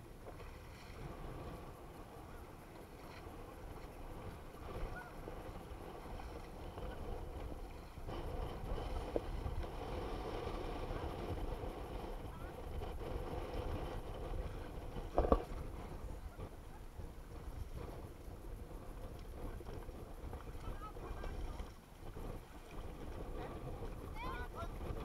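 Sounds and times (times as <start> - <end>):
jet ski engine running: 0.0 - 25.0
water rushing past hull: 0.0 - 25.0.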